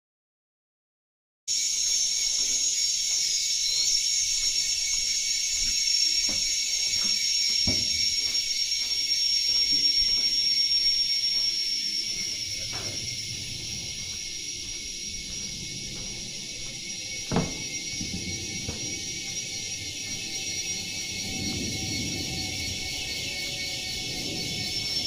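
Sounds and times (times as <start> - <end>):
insect chorus drone: 1.5 - 25.0.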